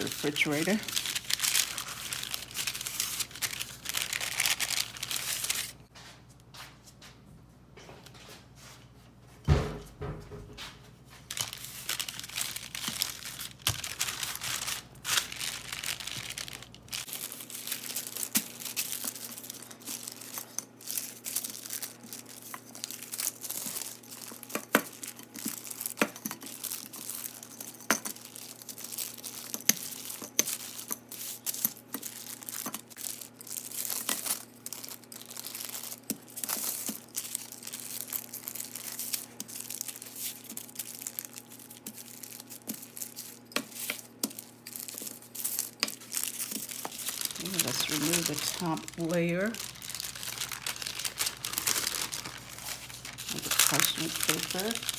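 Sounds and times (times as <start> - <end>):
parchment paper crinkling: 0.0 - 5.8, 11.2 - 54.9.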